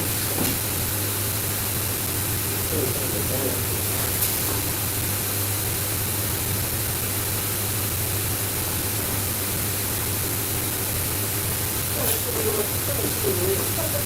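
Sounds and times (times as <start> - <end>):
steady hiss with low hum: 0.0 - 14.0.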